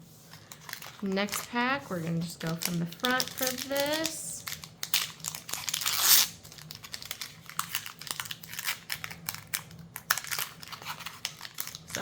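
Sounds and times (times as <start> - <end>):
wrapper crinkling: 0.3 - 12.0
wrapper tearing open: 0.4 - 1.5, 2.5 - 12.0.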